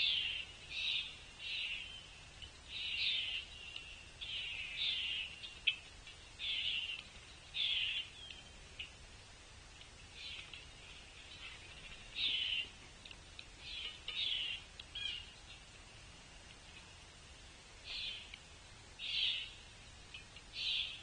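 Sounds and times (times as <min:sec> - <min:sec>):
birds calling harshly: 0:00.0 - 0:09.2, 0:09.8 - 0:16.0, 0:17.8 - 0:21.0.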